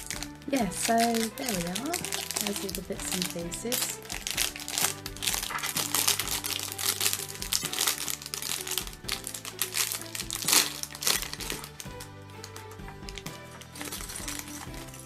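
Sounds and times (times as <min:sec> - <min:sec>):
background music: 0:00.0 - 0:15.0
plastic bag crinkling: 0:00.0 - 0:15.0.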